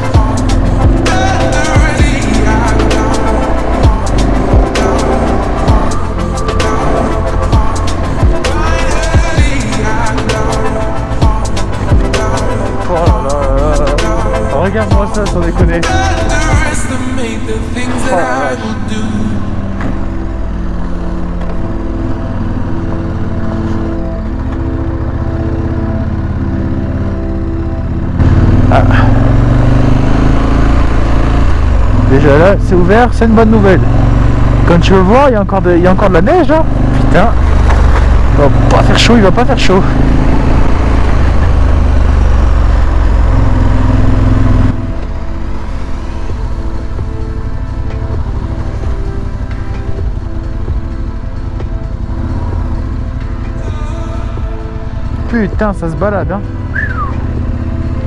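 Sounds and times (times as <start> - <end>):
motorcycle engine at low revs: 0.0 - 58.0.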